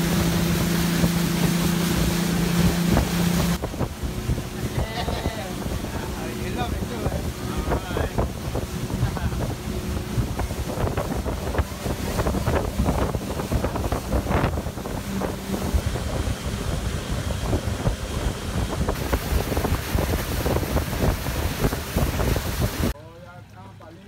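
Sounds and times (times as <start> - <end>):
water slapping against hull: 0.0 - 23.0
wind buffeting microphone: 0.0 - 23.0
motorboat engine running: 0.0 - 24.0.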